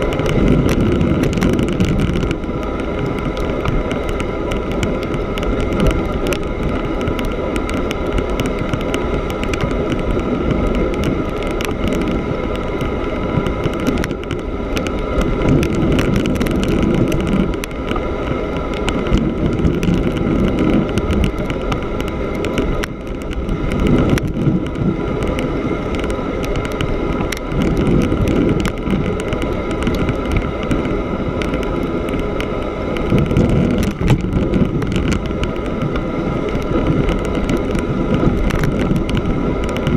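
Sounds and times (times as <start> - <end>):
bicycle tyre rolling over snow: 0.0 - 39.9
wind buffeting microphone: 0.0 - 39.9.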